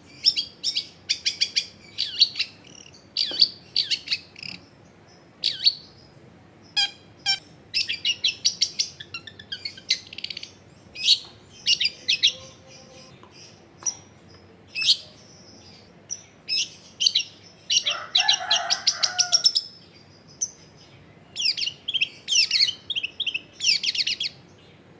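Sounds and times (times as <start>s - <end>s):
bird chattering chirps and trills: 0.2s - 24.5s.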